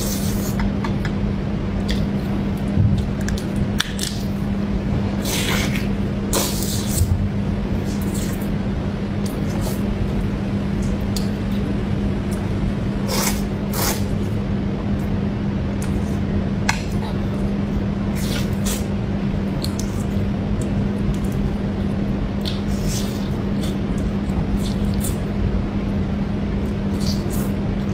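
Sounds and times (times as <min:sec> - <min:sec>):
background hum and hiss: 0:00.0 - 0:27.9.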